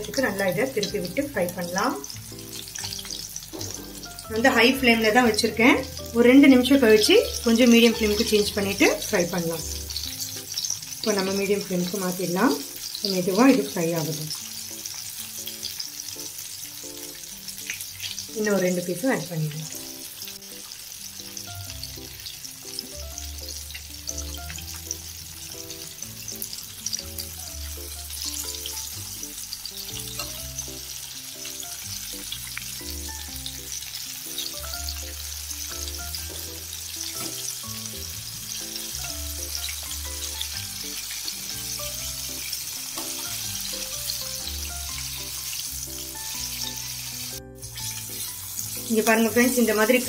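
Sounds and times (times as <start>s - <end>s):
chicken deep-frying in oil: 0.0s - 50.0s.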